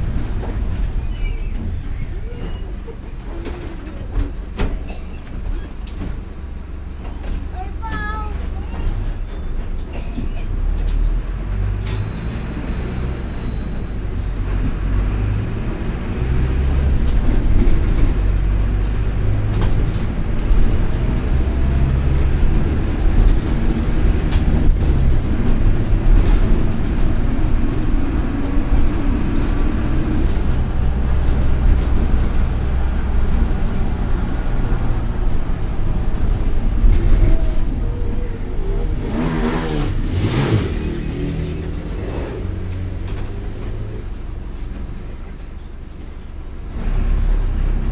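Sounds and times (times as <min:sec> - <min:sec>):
bus diesel engine rumble: 0:00.0 - 0:47.9.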